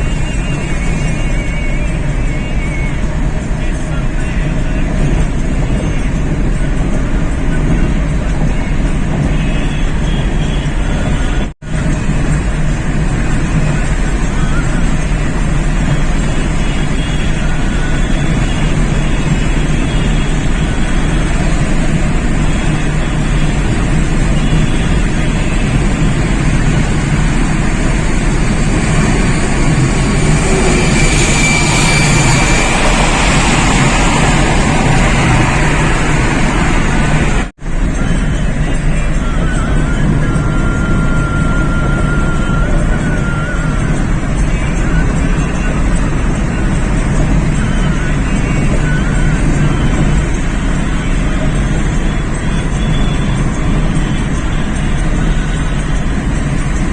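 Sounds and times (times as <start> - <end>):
vehicle in motion hum and hiss: 0.0 - 56.9.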